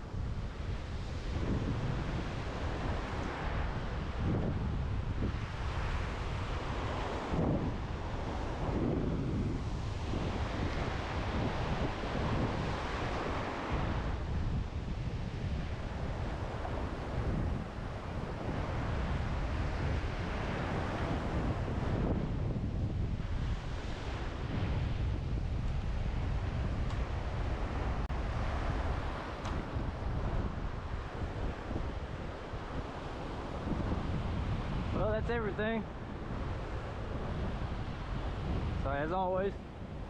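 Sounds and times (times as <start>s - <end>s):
surf breaking on beach: 0.0s - 40.0s
wind buffeting microphone: 0.0s - 40.0s.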